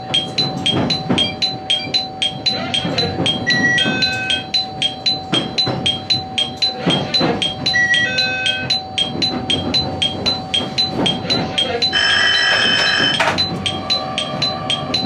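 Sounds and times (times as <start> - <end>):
steady tone: 0.1 - 15.0
fast electronic chime: 0.6 - 15.0.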